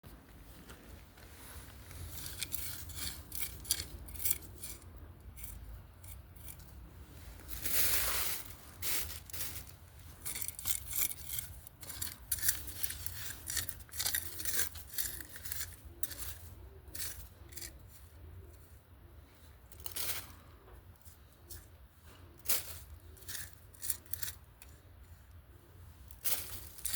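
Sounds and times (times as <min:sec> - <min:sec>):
hand tool scraping soil: 0:01.8 - 0:06.7, 0:07.4 - 0:18.2, 0:19.7 - 0:24.9, 0:26.1 - 0:26.9.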